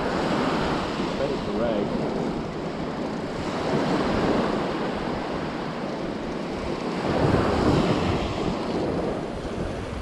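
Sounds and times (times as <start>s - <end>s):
surf washing up a beach: 0.0s - 10.0s
wind buffeting microphone: 0.0s - 10.0s.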